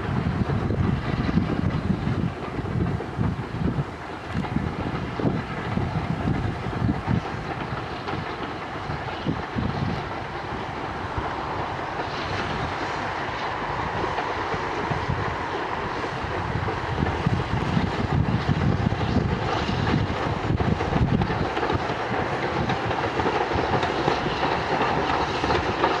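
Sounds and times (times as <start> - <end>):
steam locomotive exhaust: 0.0 - 26.0
train wheels on rails: 0.0 - 26.0.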